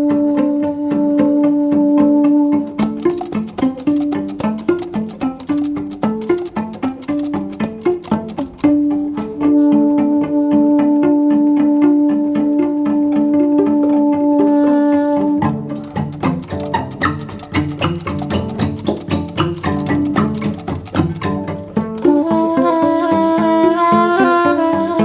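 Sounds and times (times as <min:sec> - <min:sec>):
plucked string music: 0:00.0 - 0:25.0.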